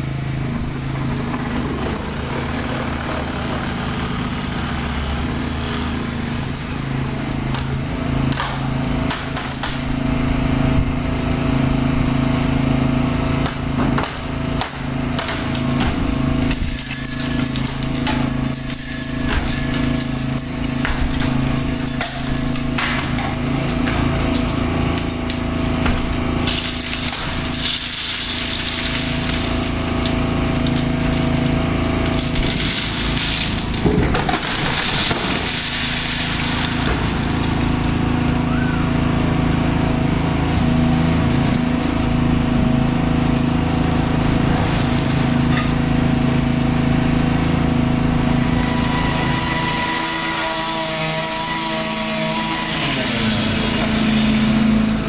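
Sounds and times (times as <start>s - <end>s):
machinery mechanical drone: 0.0s - 55.0s.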